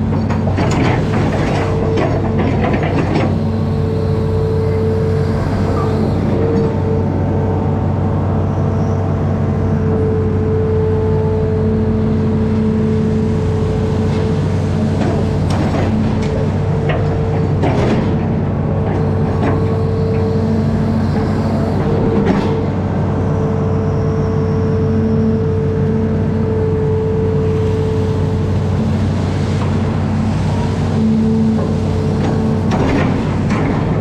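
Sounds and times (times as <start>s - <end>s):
diesel engine running steadily: 0.0s - 34.0s.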